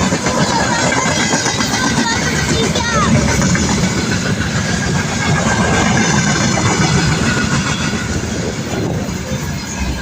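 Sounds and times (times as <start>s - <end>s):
locomotive rail rumble: 0.0s - 10.0s.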